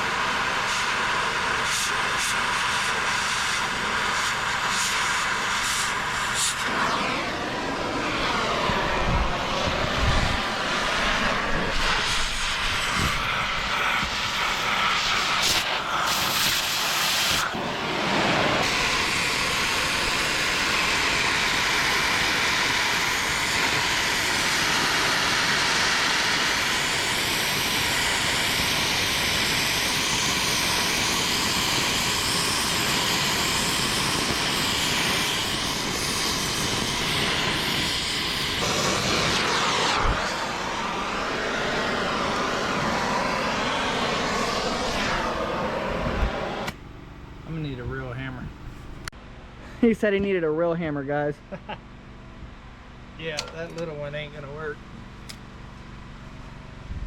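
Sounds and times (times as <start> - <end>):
gas torch hissing: 0.0 - 46.9.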